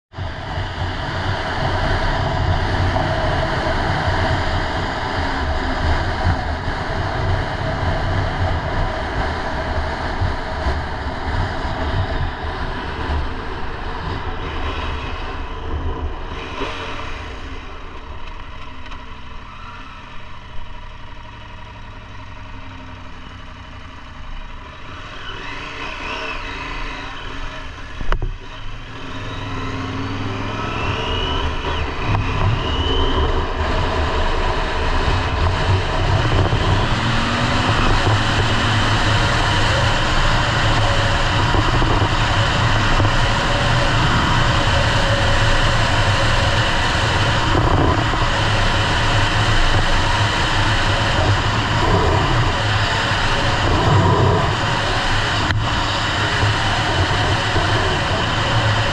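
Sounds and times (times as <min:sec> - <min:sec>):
motorcycle engine running: 0:00.1 - 0:58.9
wind and road noise: 0:00.1 - 0:58.9.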